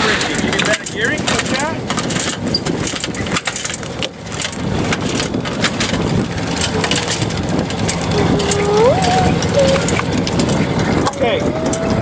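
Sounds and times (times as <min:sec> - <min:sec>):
crackling and rustling: 0:00.0 - 0:12.0
low steady hum: 0:00.0 - 0:12.0
wind rushing over microphone: 0:00.0 - 0:12.0.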